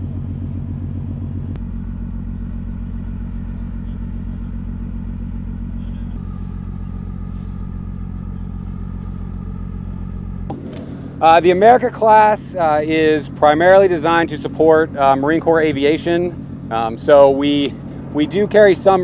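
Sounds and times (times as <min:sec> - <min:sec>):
throbbing machinery drone: 0:00.0 - 0:19.0.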